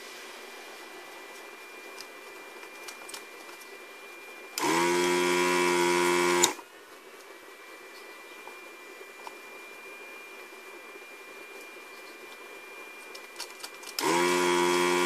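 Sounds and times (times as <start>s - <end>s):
vacuum pump buzzing: 0.4s - 15.0s.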